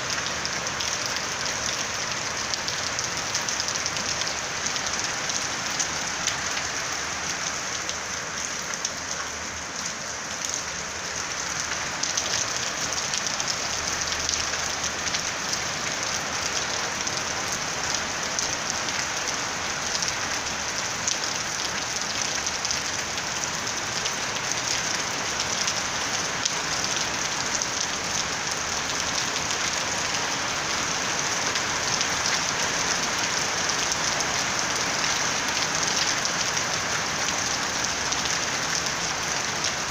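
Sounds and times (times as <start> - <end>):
rain on a rooftop: 0.0 - 39.9.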